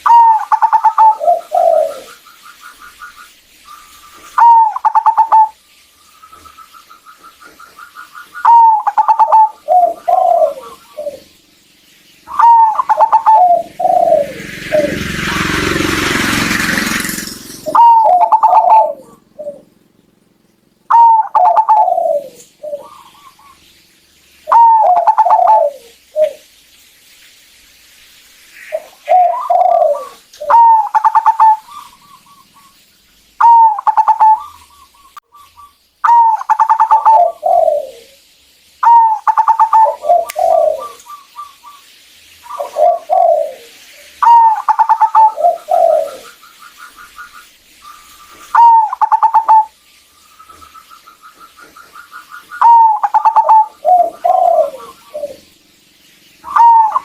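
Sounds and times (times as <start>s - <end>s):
dove cooing with falling trill: 0.0s - 5.6s, 6.3s - 11.4s, 12.2s - 23.7s, 24.4s - 26.5s, 28.6s - 32.8s, 33.4s - 49.8s, 50.4s - 55.6s, 56.4s - 57.0s.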